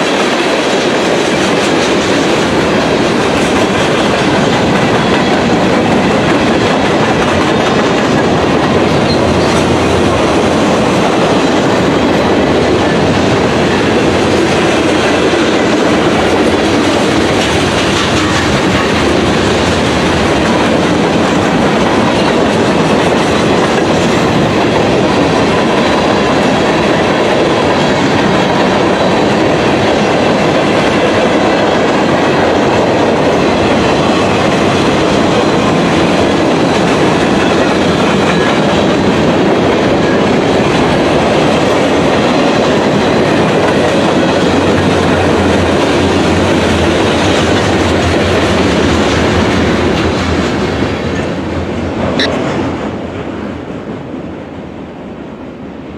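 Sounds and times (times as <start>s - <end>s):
train wheels on rail: 0.0s - 55.9s.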